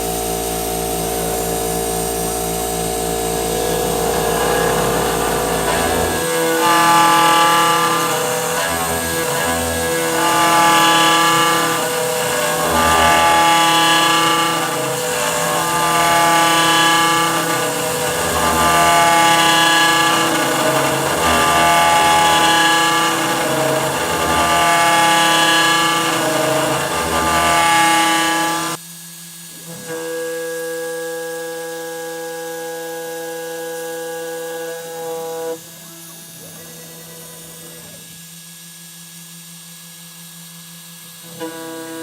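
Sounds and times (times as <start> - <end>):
cnc router cutting whine: 0.0 - 42.0.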